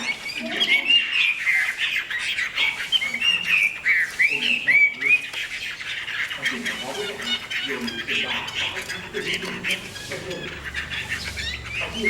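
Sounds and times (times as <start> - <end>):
songbird rapid high chirping: 0.0 - 12.0.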